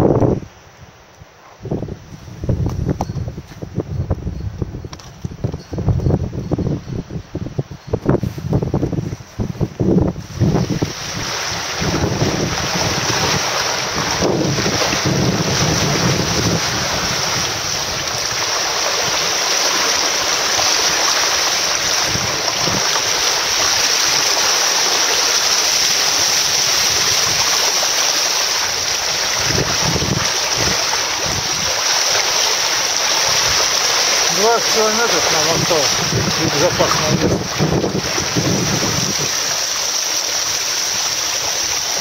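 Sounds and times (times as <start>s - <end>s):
wind and choppy water on hull: 0.0s - 42.0s
wind buffeting microphone: 1.6s - 24.5s, 25.8s - 27.7s, 28.6s - 39.7s.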